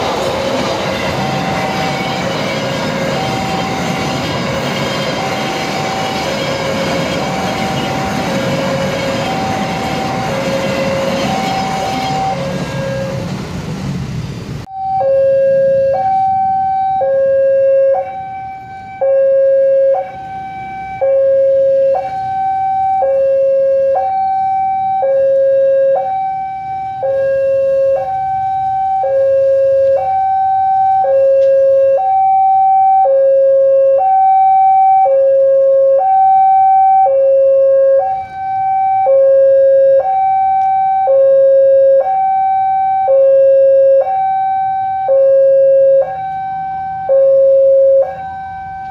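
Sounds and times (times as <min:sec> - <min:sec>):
two-tone level crossing alarm: 0:00.0 - 0:13.3, 0:14.6 - 0:48.9.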